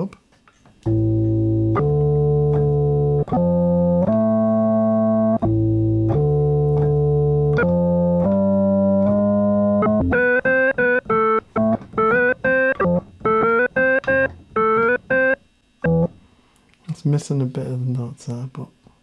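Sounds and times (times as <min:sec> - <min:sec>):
synth bass line: 0:00.9 - 0:16.2.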